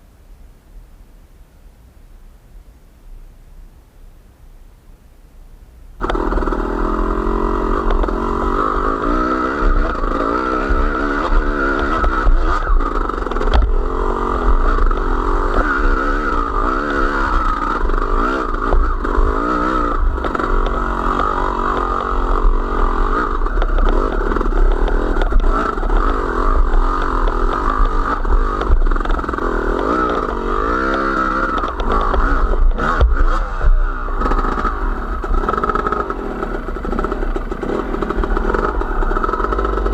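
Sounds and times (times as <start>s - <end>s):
small motor vehicle engine: 6.0s - 39.9s.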